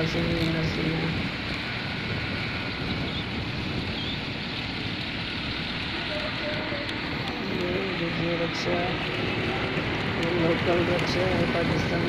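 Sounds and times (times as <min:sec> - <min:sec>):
motorcycle road noise: 0:00.0 - 0:12.0
wind rushing over microphone: 0:00.0 - 0:12.0.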